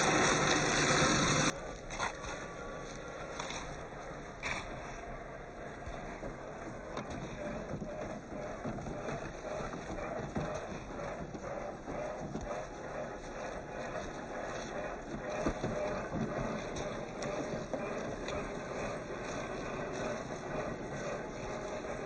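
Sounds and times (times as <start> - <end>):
toy car drivetrain rumble: 0.0 - 22.0.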